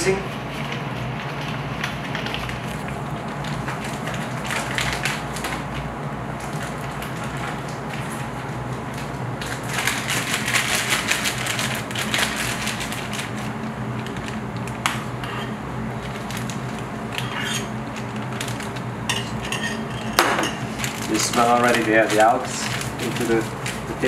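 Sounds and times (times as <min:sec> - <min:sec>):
kitchen machinery hum: 0:00.0 - 0:24.0
plastic bag crinkling: 0:01.4 - 0:15.0, 0:16.0 - 0:19.0, 0:20.6 - 0:24.0.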